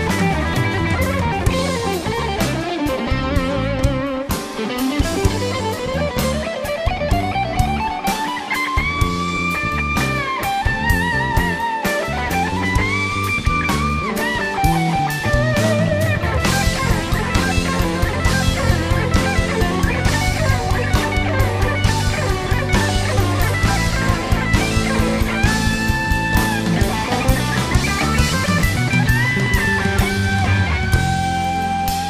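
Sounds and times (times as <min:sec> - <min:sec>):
bass and drums: 0:00.0 - 0:32.0
electric guitar solo: 0:00.0 - 0:32.0.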